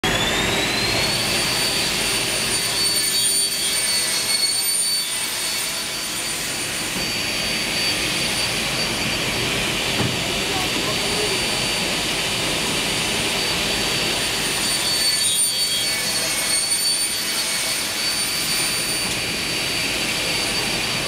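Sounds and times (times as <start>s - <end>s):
cutting saw whining: 0.0s - 21.0s.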